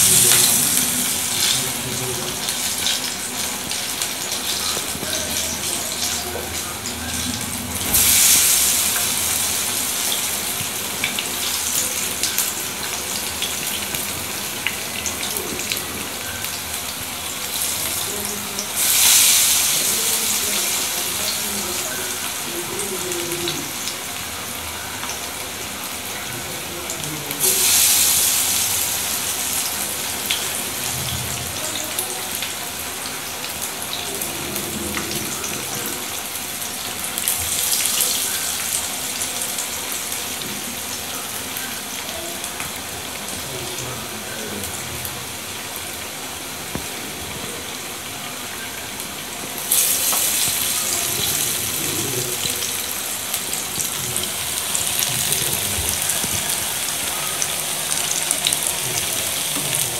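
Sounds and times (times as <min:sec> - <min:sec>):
fritters sizzling in hot oil: 0:00.0 - 0:44.2, 0:49.5 - 0:59.9.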